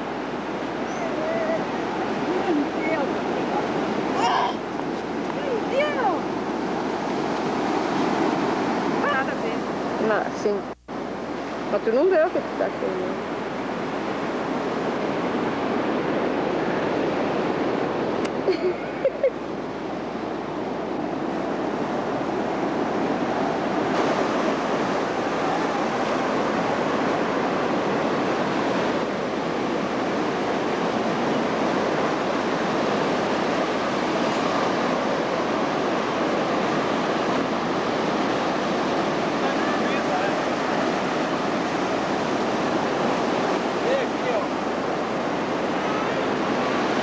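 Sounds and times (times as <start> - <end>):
ocean surf breaking: 0.0 - 47.0.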